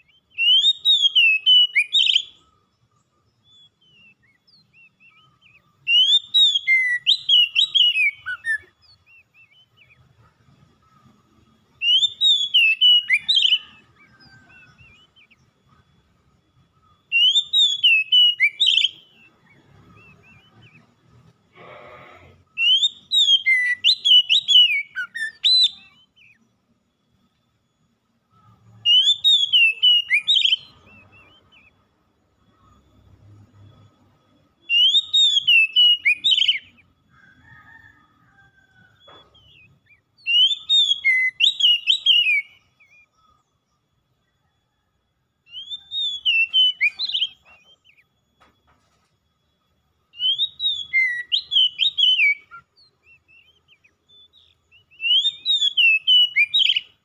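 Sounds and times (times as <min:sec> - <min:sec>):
bird singing whistled notes: 0:00.0 - 0:48.7, 0:49.3 - 0:57.0.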